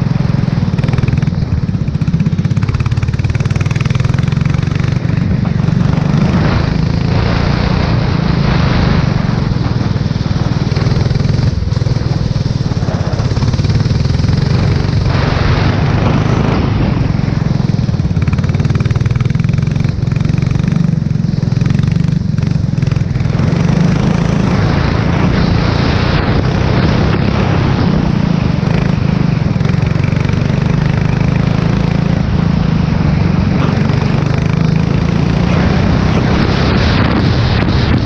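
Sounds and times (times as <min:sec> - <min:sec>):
race car engine running hard: 0:00.0 - 0:38.0.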